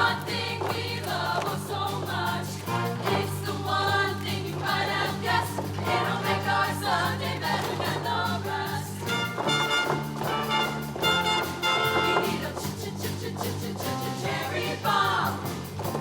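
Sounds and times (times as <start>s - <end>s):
choir singing: 0.0s - 16.0s
live band: 1.2s - 16.0s.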